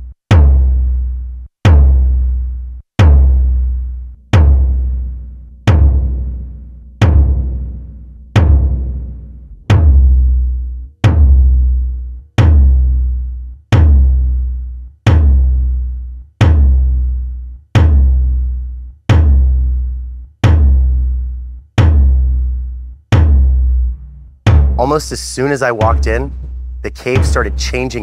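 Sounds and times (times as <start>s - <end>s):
deep electronic drum hits: 0.3s - 28.0s.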